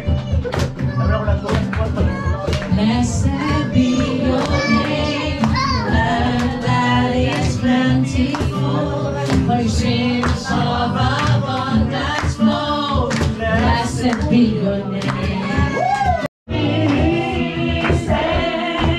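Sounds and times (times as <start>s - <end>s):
music with steady beat: 0.0s - 18.9s
voices singing worship song: 2.5s - 18.9s.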